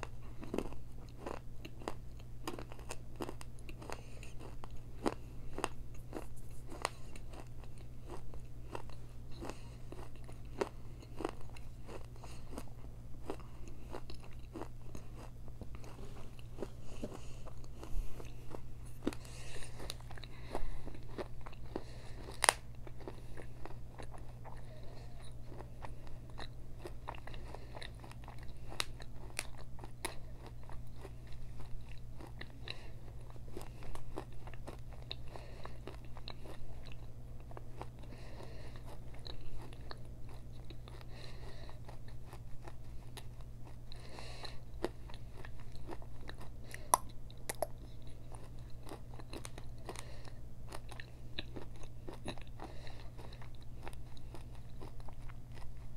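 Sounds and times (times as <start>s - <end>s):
crunching and chewing clay: 0.0s - 55.9s
steady low hum: 0.0s - 55.9s.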